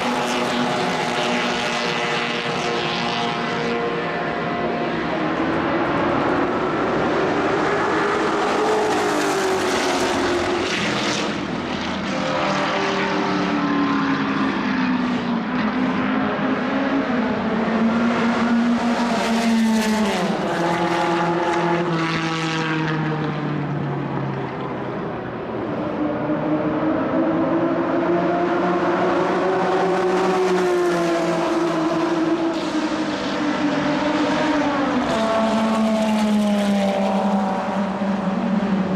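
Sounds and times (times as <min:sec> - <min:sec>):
racing car engines: 0:00.0 - 0:38.9.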